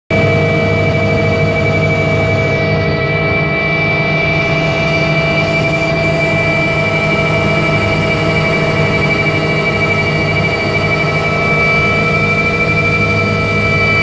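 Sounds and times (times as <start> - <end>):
helicopter turbine whine: 0.1 - 14.0.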